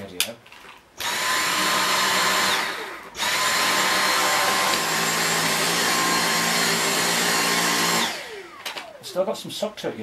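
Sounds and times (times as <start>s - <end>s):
vacuum cleaner whining: 1.0s - 9.3s.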